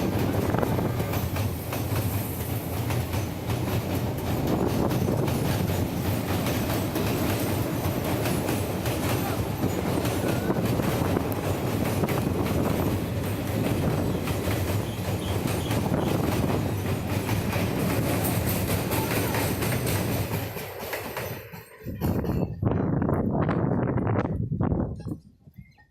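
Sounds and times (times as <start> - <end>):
train rumbling on rails: 0.0 - 25.2.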